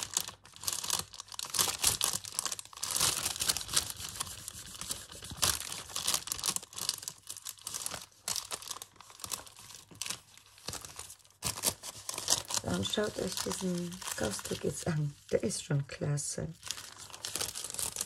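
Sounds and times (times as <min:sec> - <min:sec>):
paper crinkling as peeled: 0:00.0 - 0:15.6, 0:16.6 - 0:18.0.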